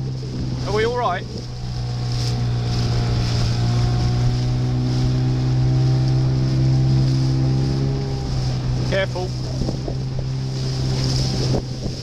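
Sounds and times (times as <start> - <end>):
choppy water: 0.0 - 12.0
motorboat engine running: 0.0 - 12.0
wind: 0.0 - 12.0.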